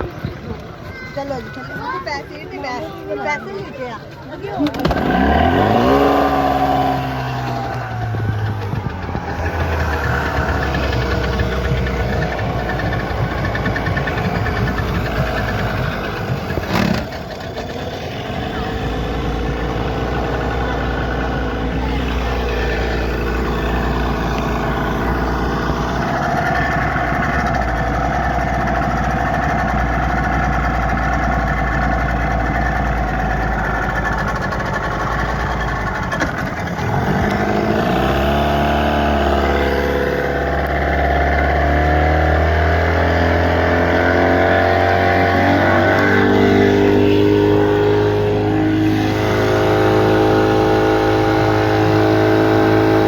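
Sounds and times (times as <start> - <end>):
motorboat engine running: 0.0 - 53.0.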